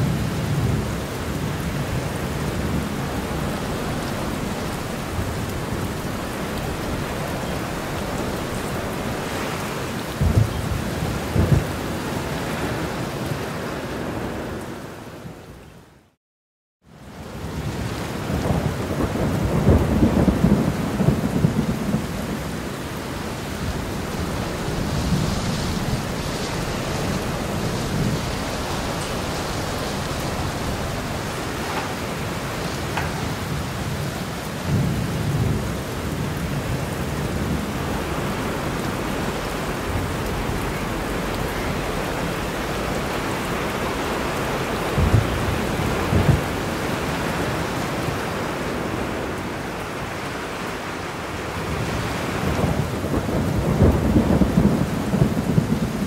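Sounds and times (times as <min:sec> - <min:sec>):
thunder rumbling: 0:00.0 - 0:13.4, 0:17.5 - 0:50.5, 0:51.5 - 0:56.0
heavy rain: 0:00.0 - 0:16.2, 0:16.8 - 0:56.0.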